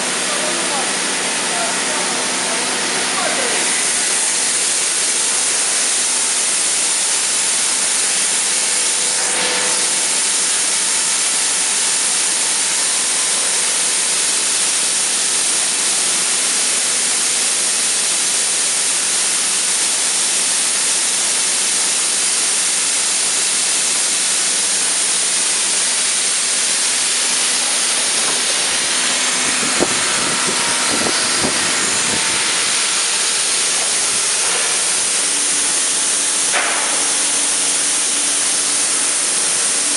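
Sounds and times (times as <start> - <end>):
factory machinery hiss: 0.0 - 39.9.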